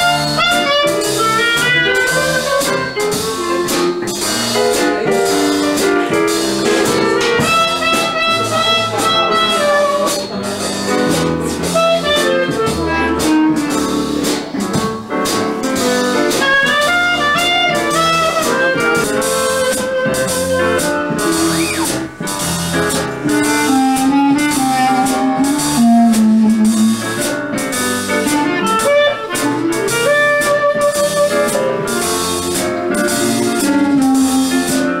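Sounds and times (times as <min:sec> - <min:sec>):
clarinet melody: 0:00.0 - 0:14.4, 0:15.8 - 0:35.0
traditional jazz band: 0:00.0 - 0:35.0.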